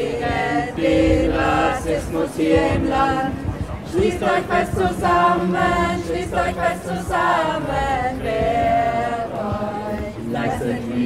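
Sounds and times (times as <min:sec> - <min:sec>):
group singing in chorus: 0:00.0 - 0:11.0
steady low tone: 0:00.0 - 0:11.0.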